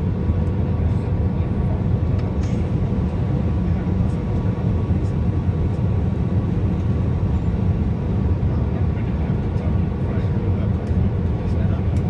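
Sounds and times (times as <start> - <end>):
airliner engine roar in cabin: 0.0 - 12.0.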